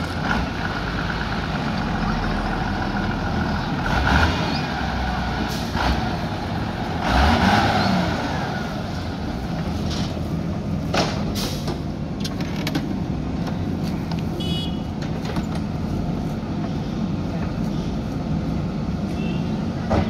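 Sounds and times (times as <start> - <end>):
heavy diesel engines running: 0.0 - 20.0.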